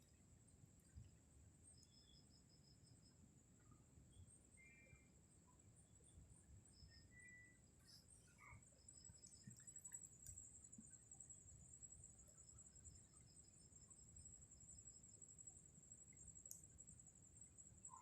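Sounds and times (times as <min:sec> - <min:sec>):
cricket trill: 0:00.0 - 0:18.0
short insect chirps: 0:01.7 - 0:18.0.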